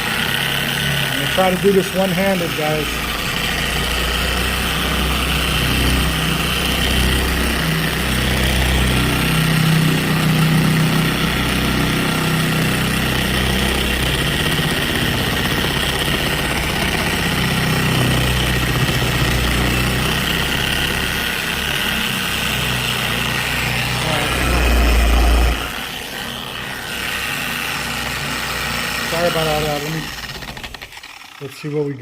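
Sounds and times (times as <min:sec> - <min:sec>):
electric polisher humming: 0:00.0 - 0:32.0.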